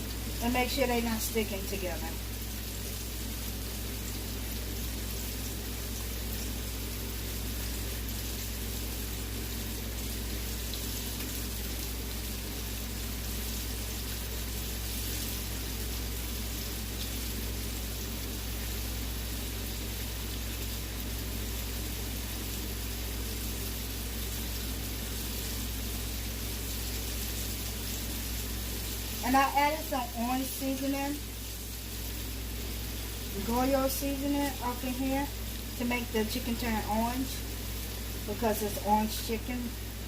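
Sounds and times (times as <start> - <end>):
chicken sizzling in hot oil: 0.0 - 40.0
low steady hum: 0.0 - 40.0.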